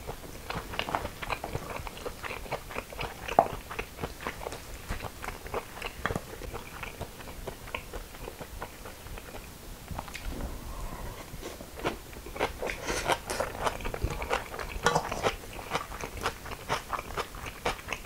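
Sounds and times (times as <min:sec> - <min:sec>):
chewing crisp greens: 0:00.0 - 0:10.3, 0:11.2 - 0:18.0.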